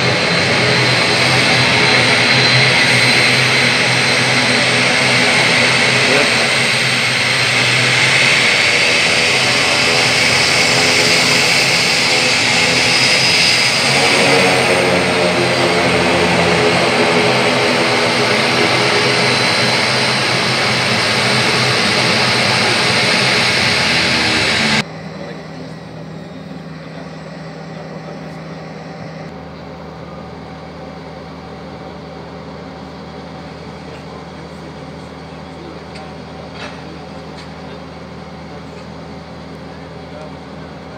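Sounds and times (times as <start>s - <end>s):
turboprop engines running: 0.0s - 40.9s.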